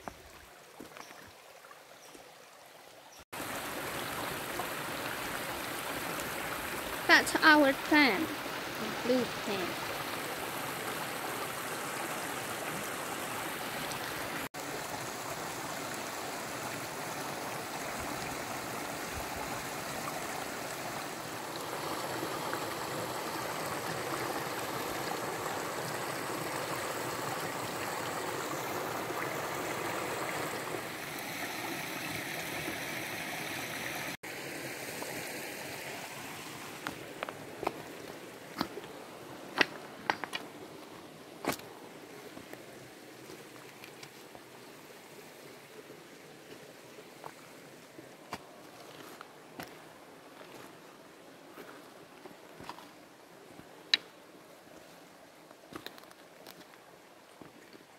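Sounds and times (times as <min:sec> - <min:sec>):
stream flowing: 0:00.0 - 0:57.9.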